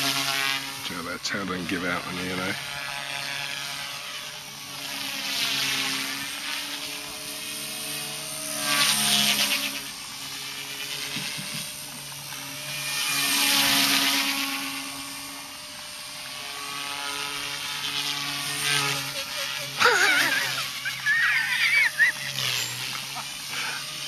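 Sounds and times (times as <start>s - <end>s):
rc helicopter rotor whine: 0.0s - 24.0s.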